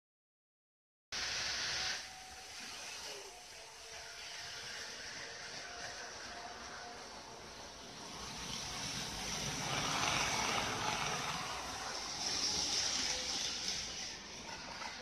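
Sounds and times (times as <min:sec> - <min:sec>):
model train rolling rumble: 0:01.4 - 0:15.0.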